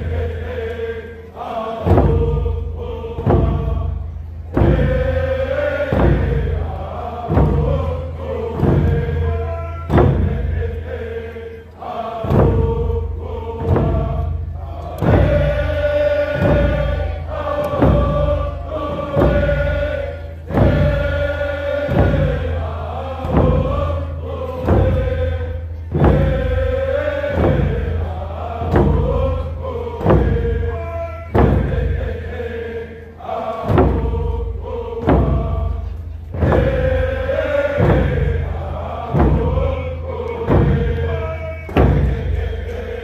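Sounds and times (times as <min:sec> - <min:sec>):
drums beating steadily: 0:00.0 - 0:43.0
group chanting in unison: 0:00.0 - 0:43.0.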